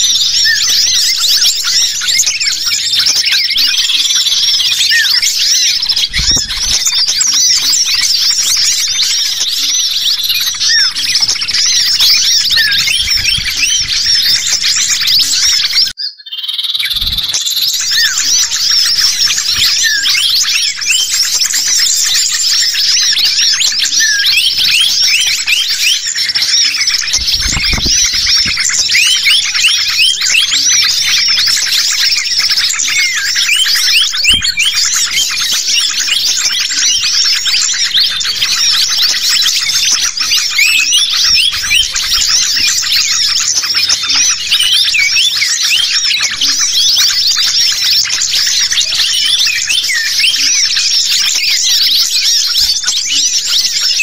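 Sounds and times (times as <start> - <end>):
small birds chirping and twittering: 0.0 - 54.0.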